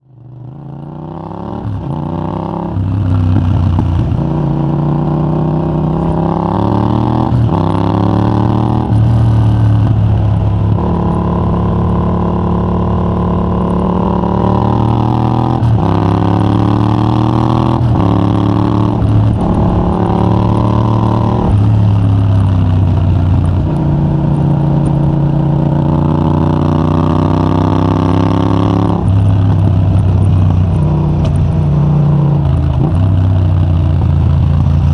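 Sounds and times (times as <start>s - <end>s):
motorcycle engine accelerating hard: 0.0s - 34.9s.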